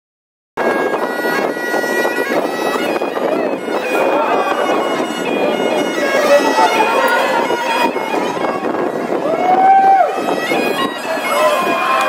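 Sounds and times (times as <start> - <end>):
bagpipes playing a dance tune: 0.6 - 12.0.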